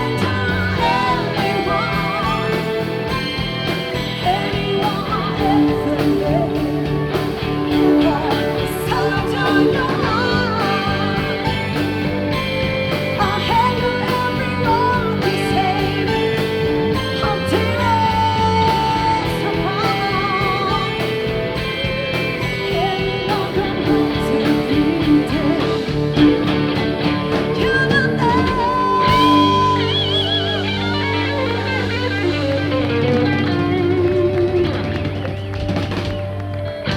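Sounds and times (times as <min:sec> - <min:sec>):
bass: 0:00.0 - 0:36.9
drums: 0:00.0 - 0:36.9
rock song: 0:00.0 - 0:36.9.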